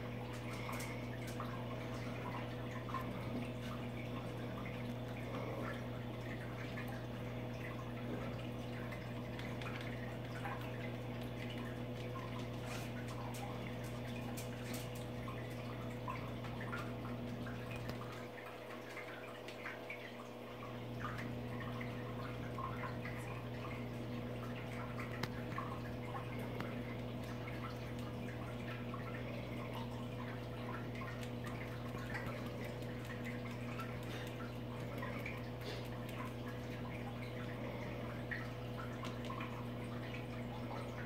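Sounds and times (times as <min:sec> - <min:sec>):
aquarium filter humming: 0:00.0 - 0:41.0
water trickling and dripping: 0:00.0 - 0:41.0.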